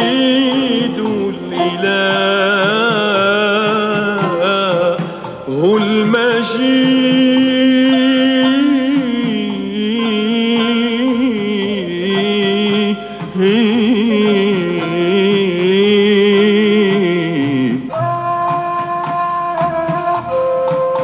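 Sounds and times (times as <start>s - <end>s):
man singing with vibrato: 0.0s - 18.7s
instrumental accompaniment: 0.0s - 21.0s.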